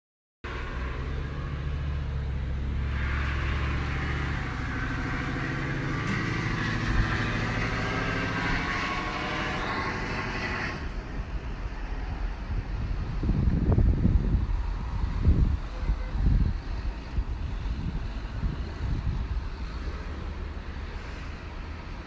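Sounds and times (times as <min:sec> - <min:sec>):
car engine humming: 0:00.5 - 0:22.0.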